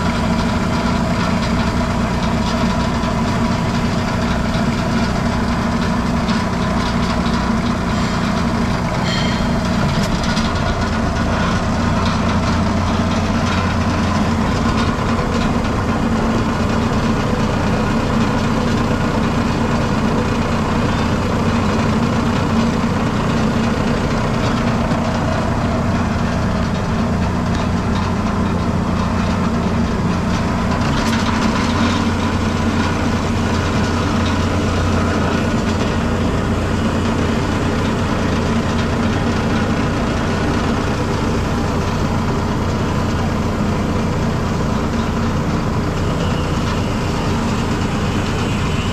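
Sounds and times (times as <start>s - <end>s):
grinder machine hum: 0.0s - 48.9s.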